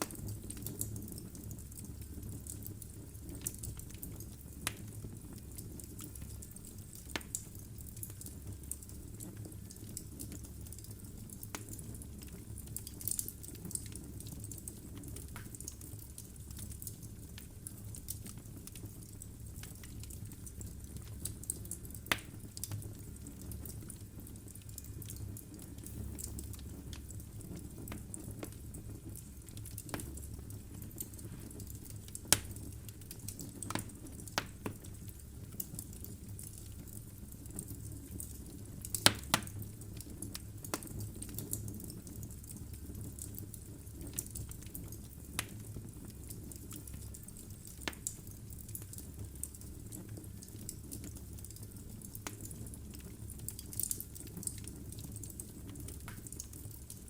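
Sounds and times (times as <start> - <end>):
logs crackling and popping: 0.0 - 57.0
low rumble of flame: 0.0 - 57.0.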